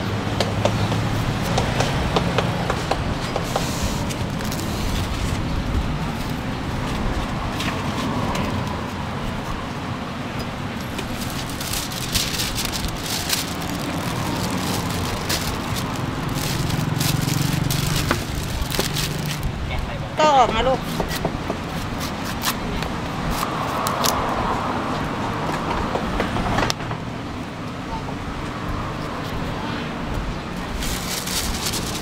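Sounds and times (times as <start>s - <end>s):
street traffic hum: 0.0s - 32.0s.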